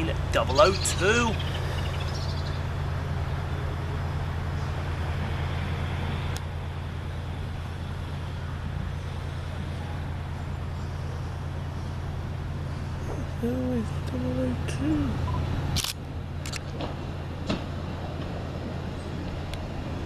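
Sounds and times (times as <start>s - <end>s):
railcar engine humming: 0.0s - 20.0s.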